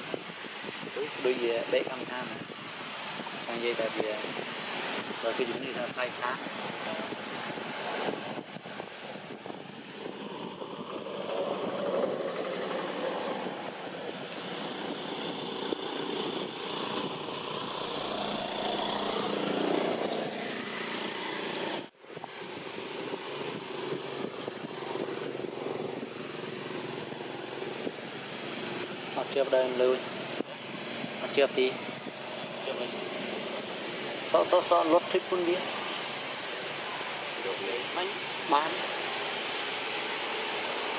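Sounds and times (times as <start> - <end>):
distant engine drone: 0.0 - 40.9.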